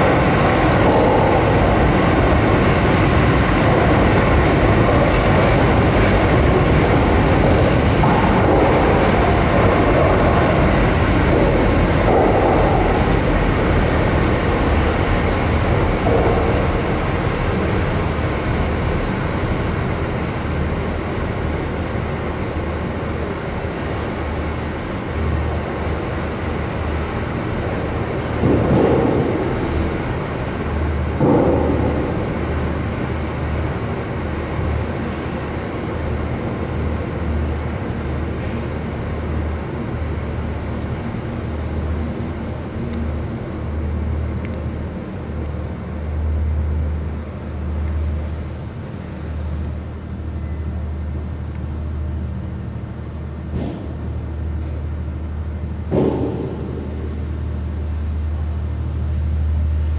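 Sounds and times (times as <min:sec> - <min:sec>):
train rumbling through tunnel: 0:00.0 - 0:59.9
wheel-on-rail noise: 0:00.0 - 0:59.9.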